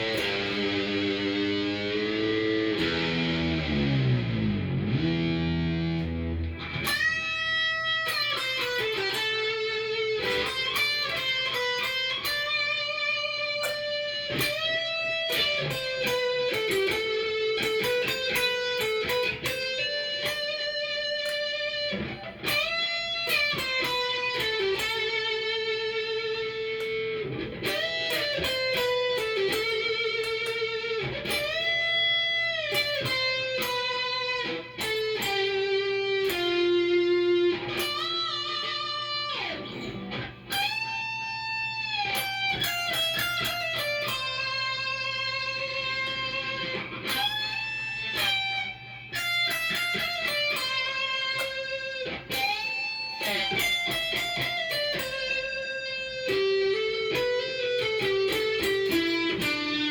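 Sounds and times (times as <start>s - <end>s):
electric guitar melody: 0.0s - 59.9s.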